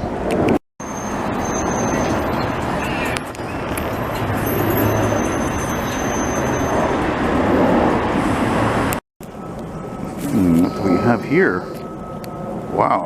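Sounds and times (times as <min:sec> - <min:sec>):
heavy highway traffic: 0:00.0 - 0:12.9.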